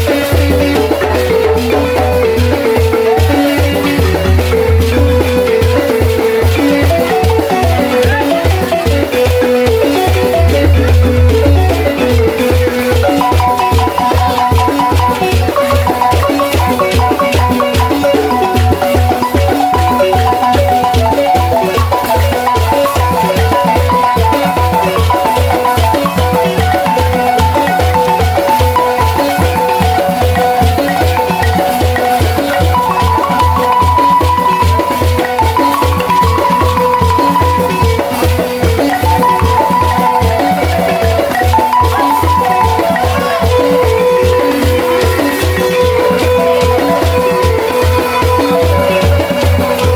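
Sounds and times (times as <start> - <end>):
balafon music: 0.0 - 49.9
wooden xylophone melody: 0.0 - 49.9.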